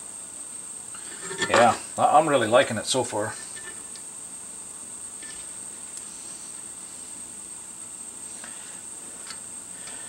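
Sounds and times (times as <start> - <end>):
even hiss: 0.0 - 10.0.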